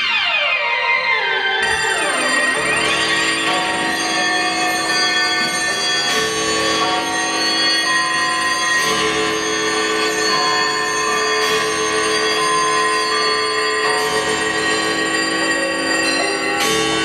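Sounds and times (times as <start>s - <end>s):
held synthesizer chords: 0.0s - 17.0s
clocks chiming and ringing: 1.6s - 17.0s.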